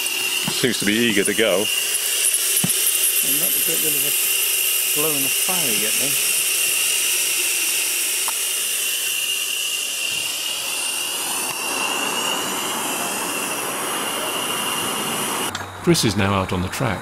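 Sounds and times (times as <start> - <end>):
steam hissing: 0.0 - 15.6
thin high whine: 0.0 - 17.0.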